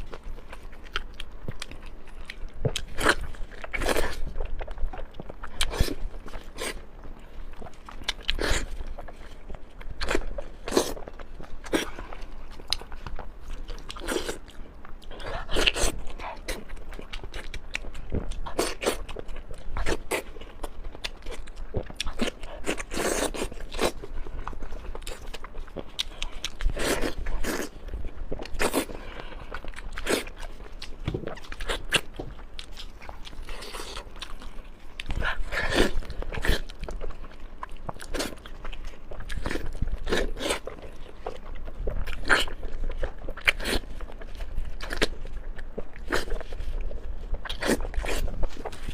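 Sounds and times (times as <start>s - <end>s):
food crunching: 0.0s - 48.9s
person chewing food: 0.0s - 48.9s.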